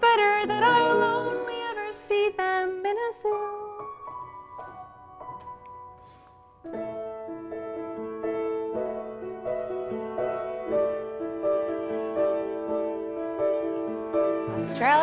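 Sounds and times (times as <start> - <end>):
piano playing chords: 0.0 - 15.0.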